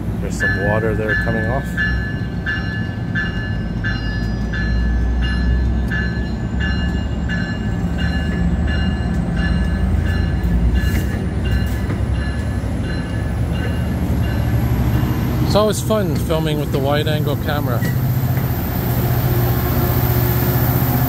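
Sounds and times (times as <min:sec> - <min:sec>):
train cars rumbling past: 0:00.0 - 0:21.0.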